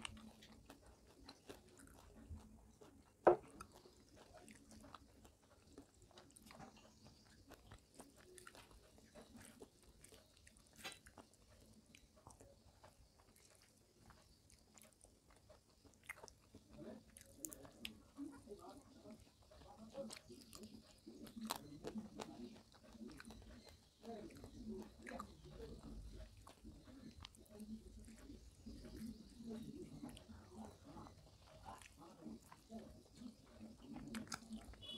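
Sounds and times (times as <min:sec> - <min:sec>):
chewing: 0:00.0 - 0:34.9
fingers squishing rice on plate: 0:00.0 - 0:34.9.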